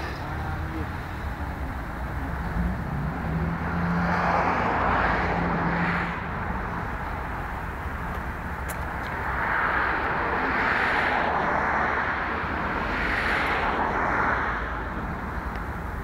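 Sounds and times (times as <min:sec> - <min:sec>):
road traffic rush: 0:00.0 - 0:16.0.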